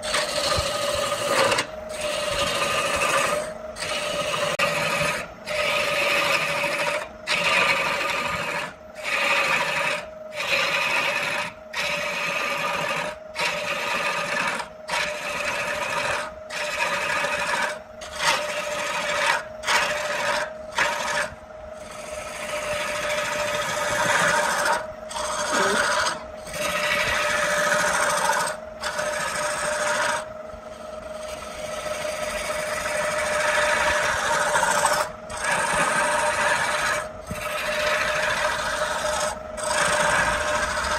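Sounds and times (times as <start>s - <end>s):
lathe motor humming: 0.0s - 40.9s
tool scraping spinning wood: 0.0s - 40.9s.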